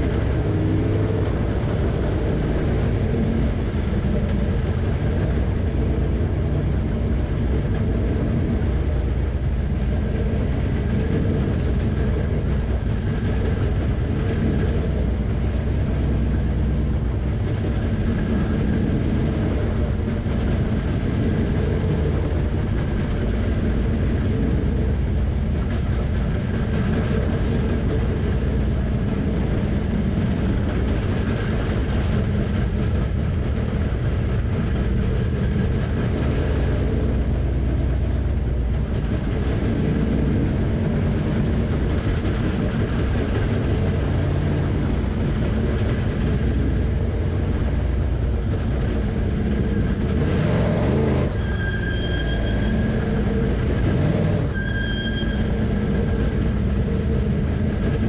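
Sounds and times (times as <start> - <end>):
race car engine running: 0.0 - 58.0
road and wind noise: 0.0 - 58.0.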